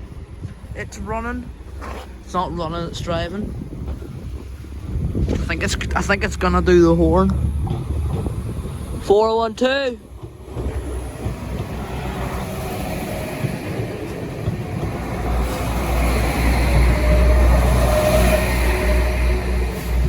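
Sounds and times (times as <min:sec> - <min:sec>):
diesel train rumbling past: 0:00.0 - 0:20.0.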